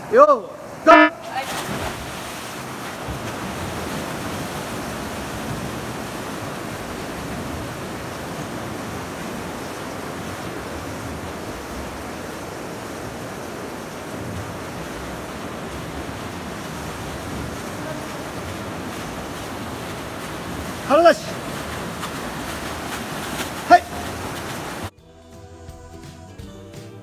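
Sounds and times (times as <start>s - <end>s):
swimmers splashing water: 0.0s - 24.9s.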